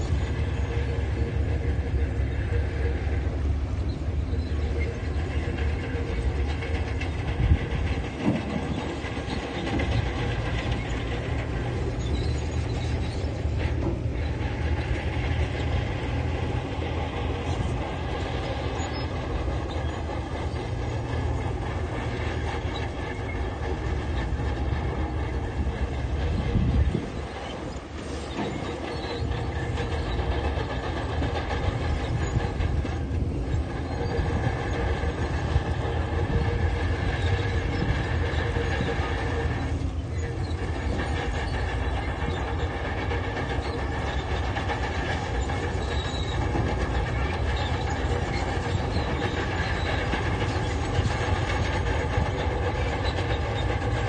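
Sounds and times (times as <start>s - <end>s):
crawler tracks clattering: 0.0s - 54.0s
diesel engine under load: 0.0s - 54.0s.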